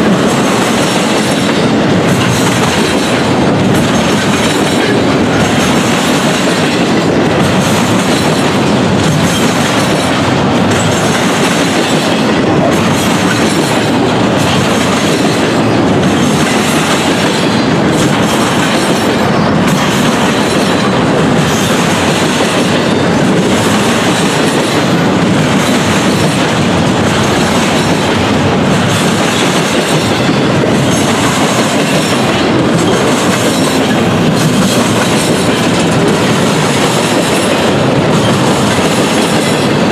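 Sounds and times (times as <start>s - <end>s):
train wheels rumbling on rail: 0.0s - 39.9s
wheels clacking over track joints: 0.0s - 39.9s.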